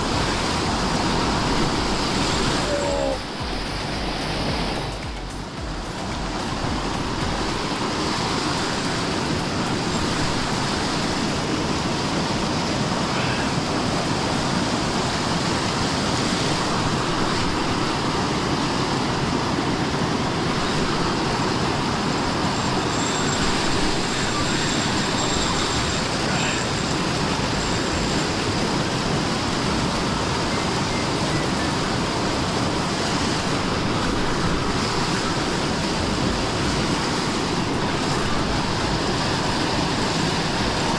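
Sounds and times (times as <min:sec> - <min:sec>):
river and waterfall rushing: 0:00.0 - 0:40.9.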